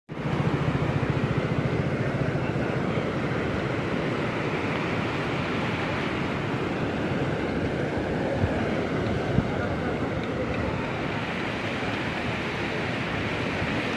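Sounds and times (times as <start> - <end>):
heavy rain: 0.1 - 13.9.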